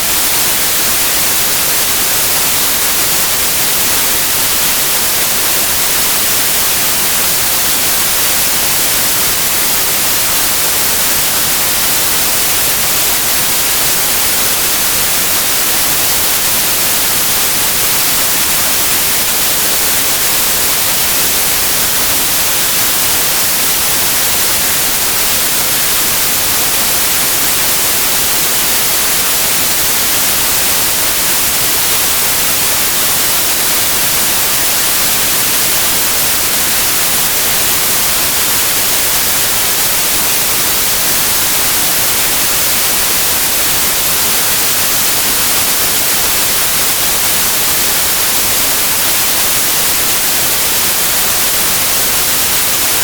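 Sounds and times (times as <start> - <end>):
steady white noise hiss: 0.0 - 53.0.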